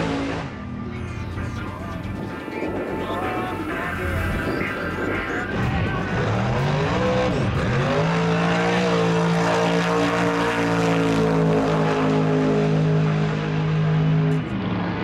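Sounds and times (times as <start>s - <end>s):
drag car engine at full throttle: 0.0s - 15.0s.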